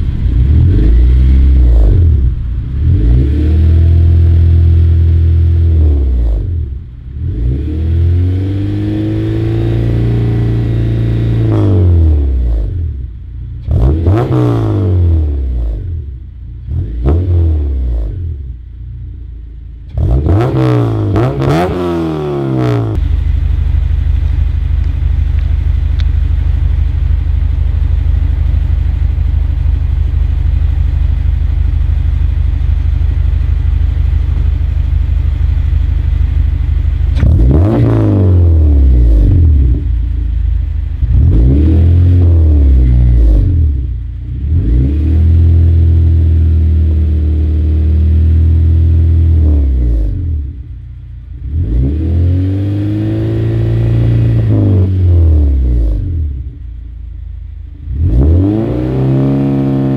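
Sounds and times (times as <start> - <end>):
car engine running and revving: 0.0 - 59.9.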